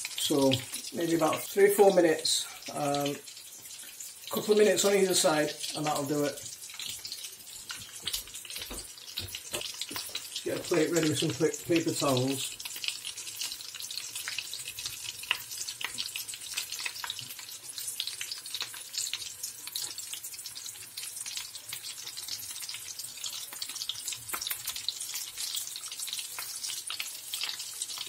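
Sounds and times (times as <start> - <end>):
food frying in hot oil: 0.0 - 28.0.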